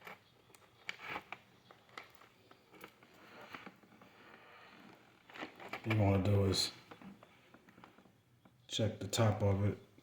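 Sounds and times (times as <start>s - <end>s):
soft rustles of wires: 0.0s - 10.0s.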